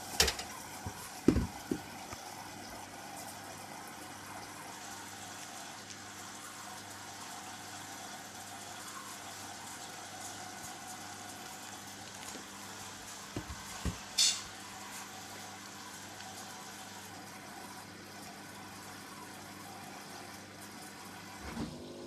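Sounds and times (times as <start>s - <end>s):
water running in washing machine: 0.0s - 22.0s.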